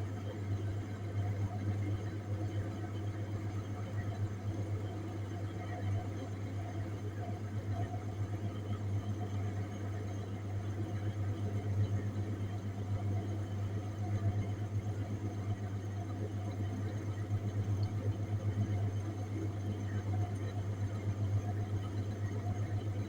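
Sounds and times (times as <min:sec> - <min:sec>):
low machine hum with flutter: 0:00.0 - 0:23.0.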